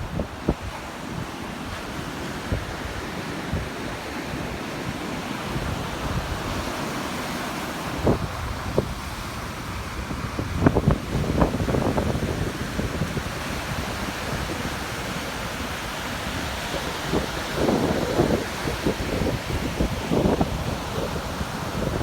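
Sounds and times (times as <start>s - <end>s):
ocean surf on sandy beach: 0.0s - 22.0s
wind buffeting microphone: 0.0s - 22.0s.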